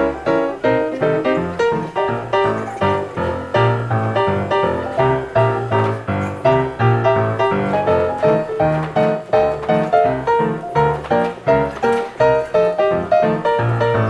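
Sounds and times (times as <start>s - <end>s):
bouncy piano music: 0.0s - 14.0s.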